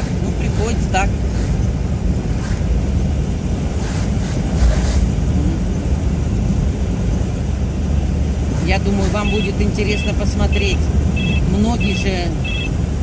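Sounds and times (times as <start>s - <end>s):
car engine and road rumble: 0.0s - 13.0s
oncoming vehicles passing: 0.0s - 13.0s.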